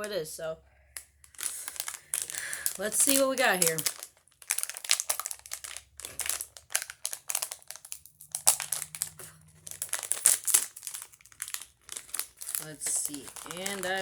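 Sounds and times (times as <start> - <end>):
packaging crinkling and rustling: 0.9 - 14.0.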